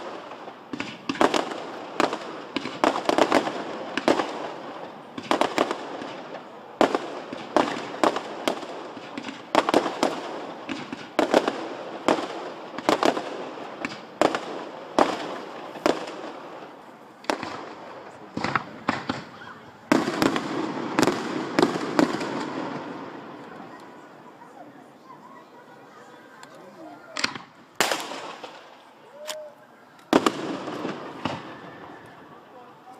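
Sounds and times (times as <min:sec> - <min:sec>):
fireworks bangs: 0:00.0 - 0:29.5, 0:30.1 - 0:32.7.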